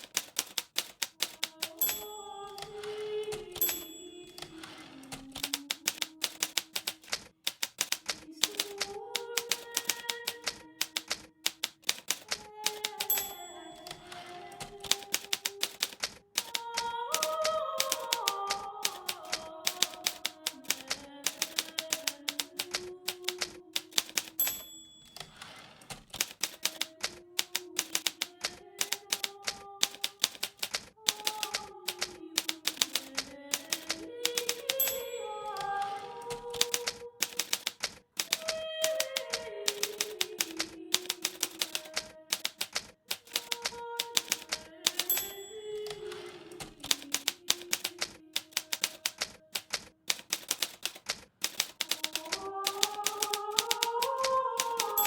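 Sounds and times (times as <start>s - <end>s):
typewriter keystrokes: 0.0s - 55.0s.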